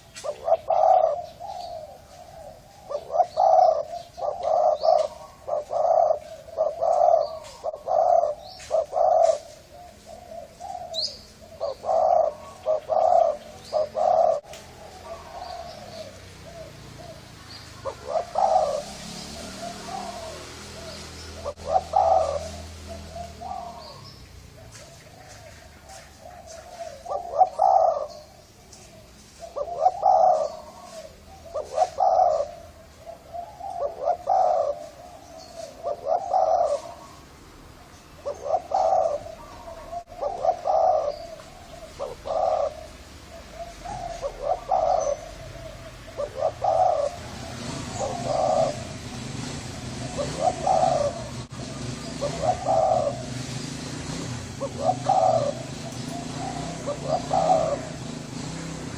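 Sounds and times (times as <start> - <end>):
dove cooing: 0.0 - 58.9.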